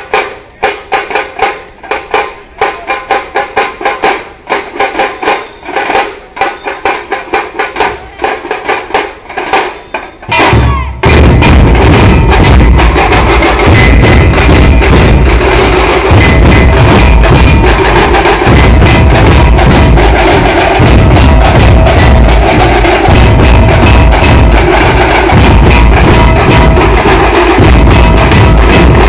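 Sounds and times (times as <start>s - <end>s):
deep drum beats: 0.0s - 29.0s
stick drum strokes: 0.0s - 29.0s.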